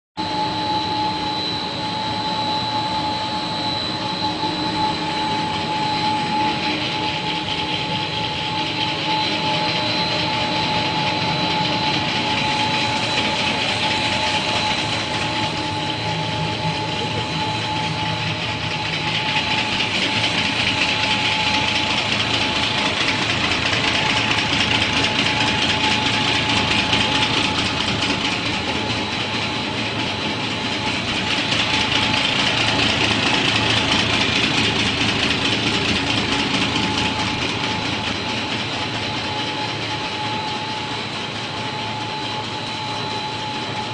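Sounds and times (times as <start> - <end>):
high machine whines: 0.2 - 43.9
machinery din: 0.3 - 43.9.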